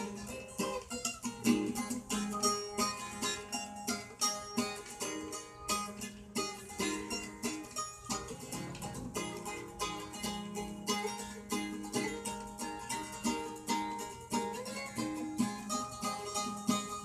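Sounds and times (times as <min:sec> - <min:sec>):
guitar picking: 0:00.0 - 0:17.0.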